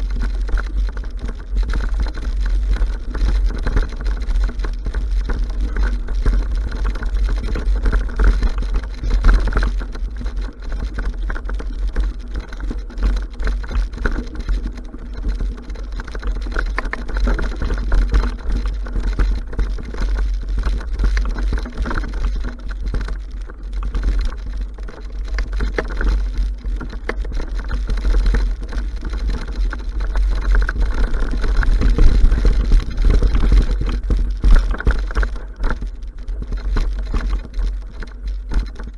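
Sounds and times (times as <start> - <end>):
bike tyres and frame rattling: 0.0 - 38.9.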